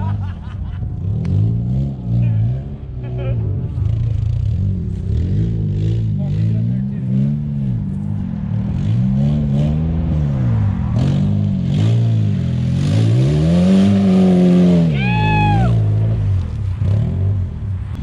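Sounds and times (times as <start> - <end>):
engine revving: 0.0 - 18.0.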